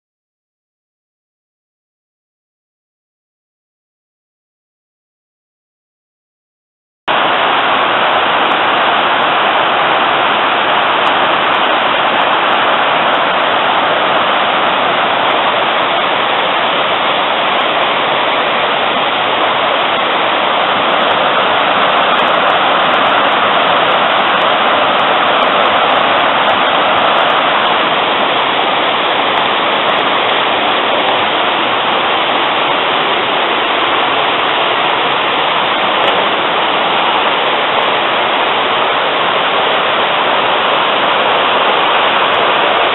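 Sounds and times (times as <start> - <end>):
river rushing over rocks: 7.1 - 42.9.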